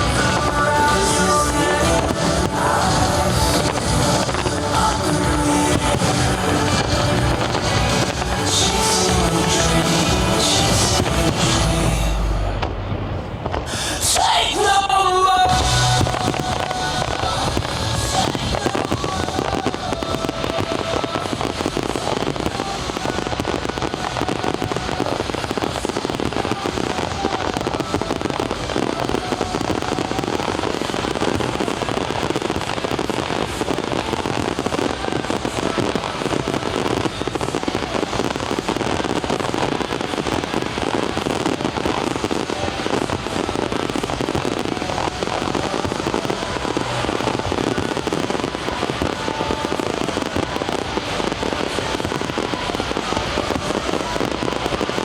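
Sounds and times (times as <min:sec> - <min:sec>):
fireworks crackling and banging: 0:00.0 - 0:55.0
music soundtrack: 0:00.0 - 0:55.0.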